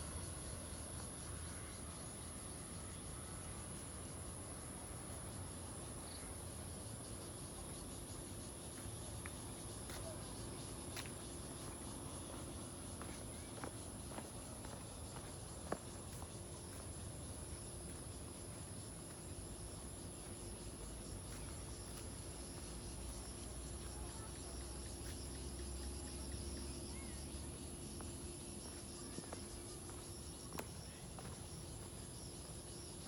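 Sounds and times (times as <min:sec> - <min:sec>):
insects trilling: 0:00.0 - 0:33.0
pulsing insect chirp: 0:00.0 - 0:33.0.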